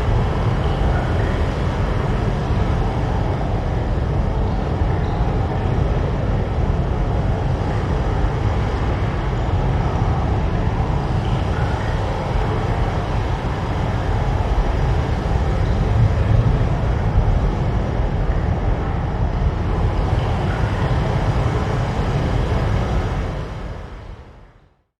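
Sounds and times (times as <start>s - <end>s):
deep steady rumbling: 0.0s - 24.6s.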